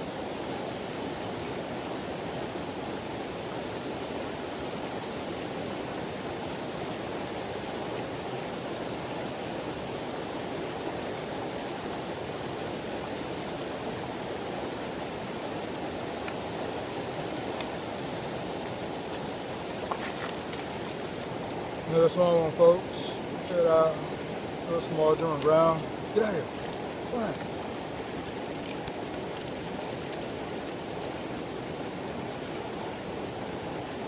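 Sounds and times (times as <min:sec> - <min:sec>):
river water rushing over rocks: 0:00.0 - 0:34.0.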